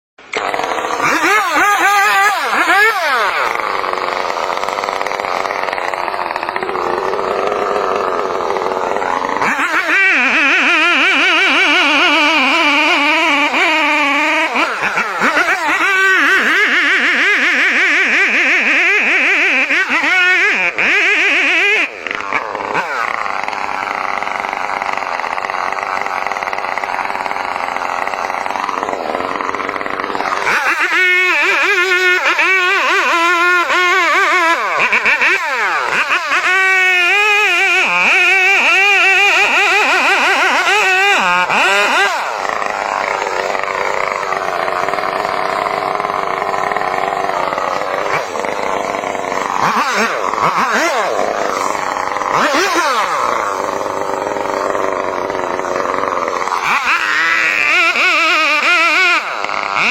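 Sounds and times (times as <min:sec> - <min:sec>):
chainsaw running and cutting: 0:00.2 - 0:59.9.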